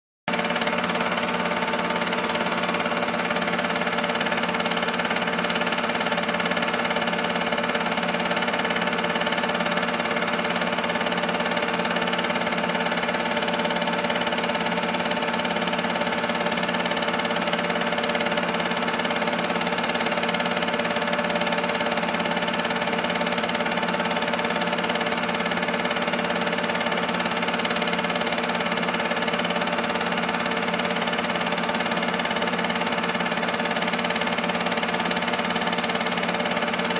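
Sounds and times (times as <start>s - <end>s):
film projector whirring: 0.3s - 36.9s.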